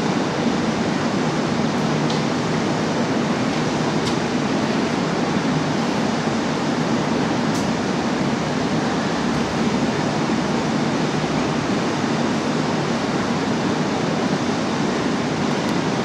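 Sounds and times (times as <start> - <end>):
train equipment rushing hum: 0.0 - 16.0.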